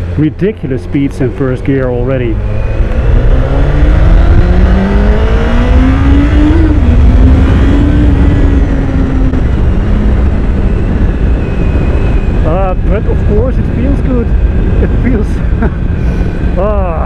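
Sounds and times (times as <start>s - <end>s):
motorcycle engine accelerating: 0.0s - 17.0s
wind rush: 0.0s - 17.0s.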